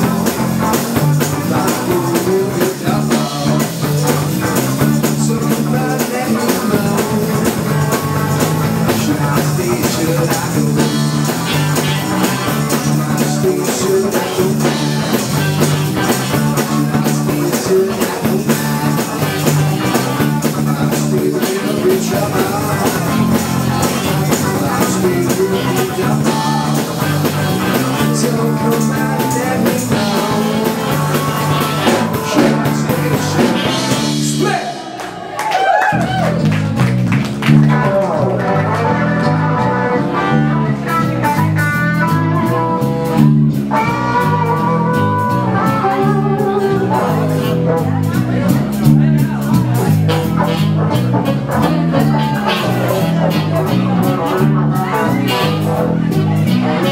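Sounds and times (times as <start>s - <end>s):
person singing: 0.0s - 36.4s, 37.5s - 56.9s
live rock band playing: 0.0s - 56.9s.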